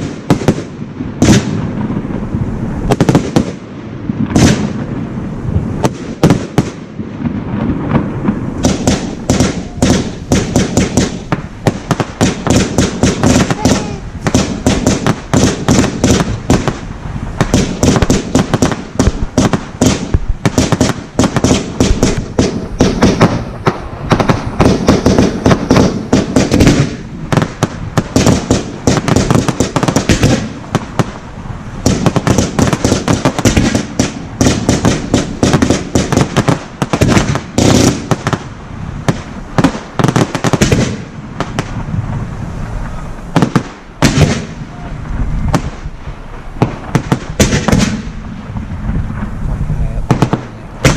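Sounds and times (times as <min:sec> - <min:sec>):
firework shell bursts and bangs: 0:00.0 - 0:02.0, 0:05.8 - 0:31.2, 0:31.8 - 0:41.9, 0:42.8 - 0:44.6, 0:46.6 - 0:50.9
firework crackling: 0:00.0 - 0:50.9.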